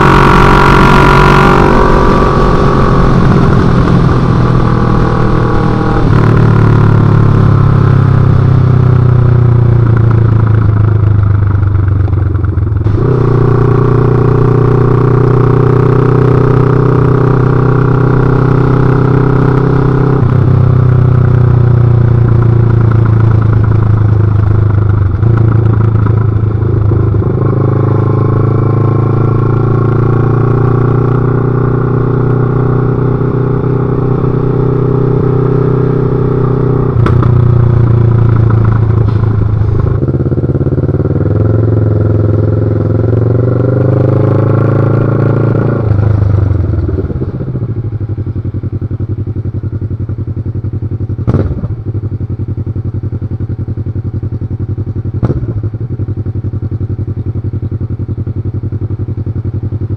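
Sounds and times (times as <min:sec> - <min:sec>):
motorcycle engine revving loud: 0:00.0 - 0:59.9.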